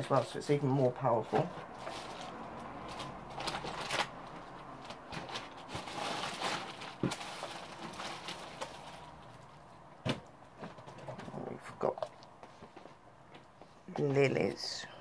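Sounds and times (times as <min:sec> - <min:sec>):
rustling and handling noises: 0:00.0 - 0:14.7.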